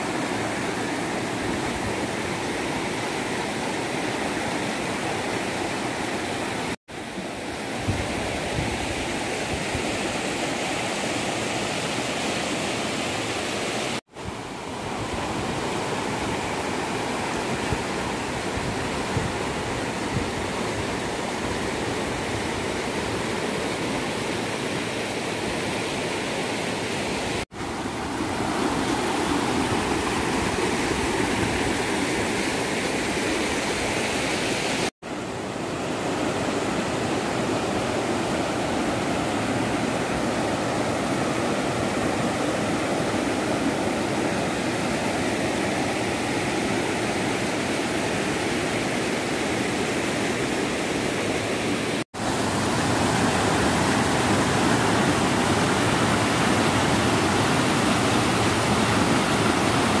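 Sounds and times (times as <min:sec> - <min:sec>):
stream water rushing over rocks: 0:00.0 - 1:00.0.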